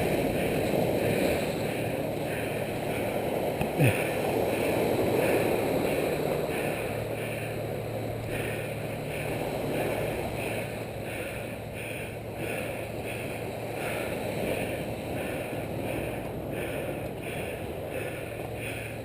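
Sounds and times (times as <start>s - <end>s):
faint high regular pulsing: 0.0s - 19.0s
ocean surf: 0.0s - 19.0s
wind: 0.0s - 19.0s.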